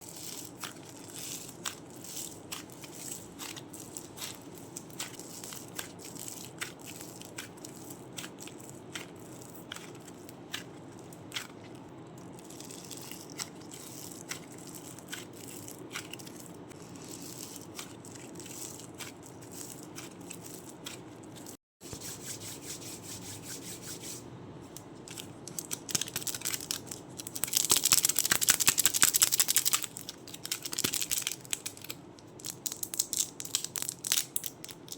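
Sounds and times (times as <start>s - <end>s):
crunchy clay crackling: 0.0s - 21.6s, 24.7s - 34.9s.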